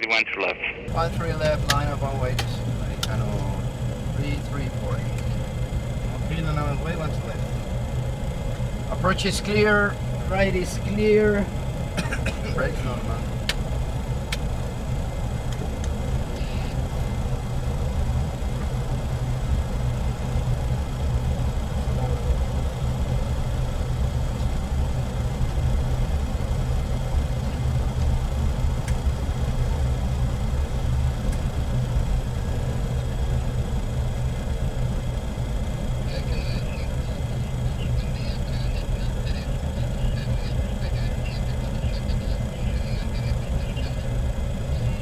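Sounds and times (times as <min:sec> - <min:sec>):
faint high whine: 0:00.0 - 0:45.0
jet engines idling rumble: 0:00.0 - 0:45.0.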